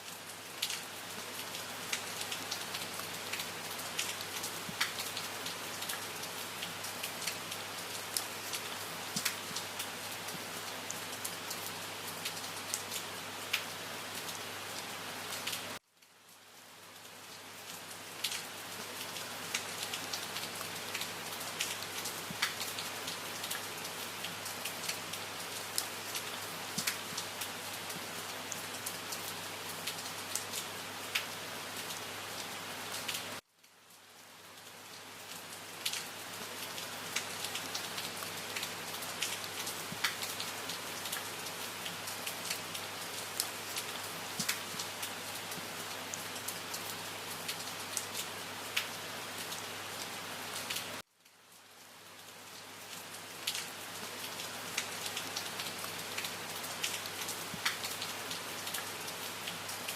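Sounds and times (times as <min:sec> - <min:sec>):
rain with sharp drop hits: 0:00.0 - 0:59.9.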